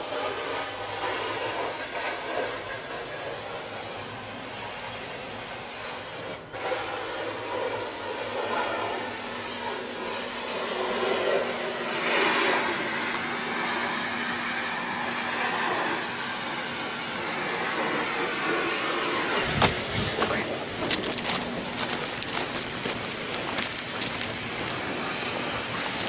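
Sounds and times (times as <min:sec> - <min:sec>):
excavator engine and fan noise: 0:00.0 - 0:26.0.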